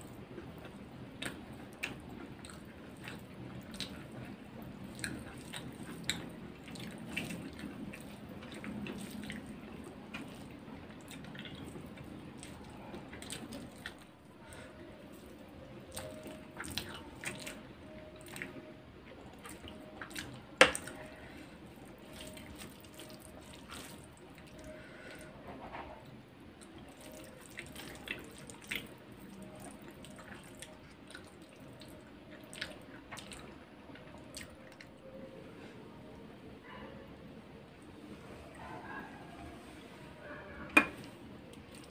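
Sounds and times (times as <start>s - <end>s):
chewing: 0.0s - 25.2s, 26.6s - 35.0s.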